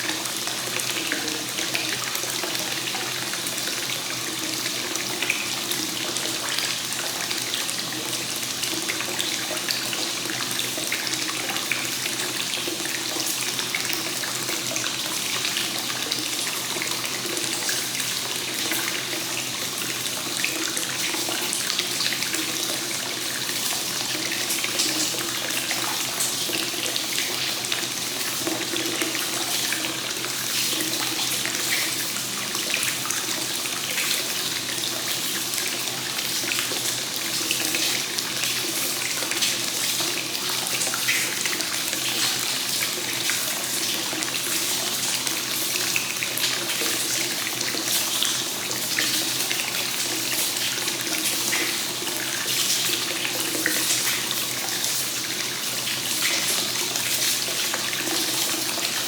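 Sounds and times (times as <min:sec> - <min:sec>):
water pouring into a bath: 0:00.0 - 0:59.0.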